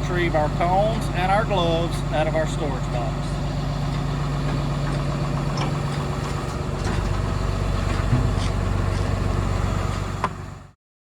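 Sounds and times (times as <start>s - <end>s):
truck engine idling: 0.0s - 10.8s.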